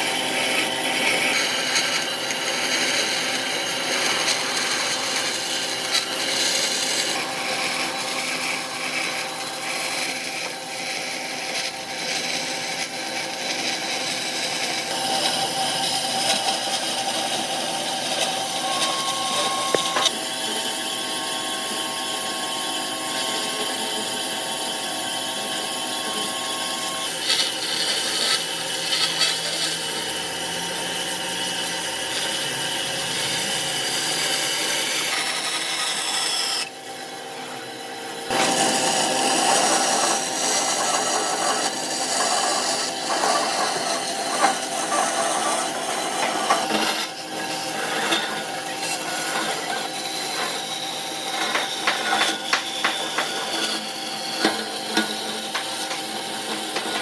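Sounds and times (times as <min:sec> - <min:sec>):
power tool working wood: 0:00.0 - 0:57.0.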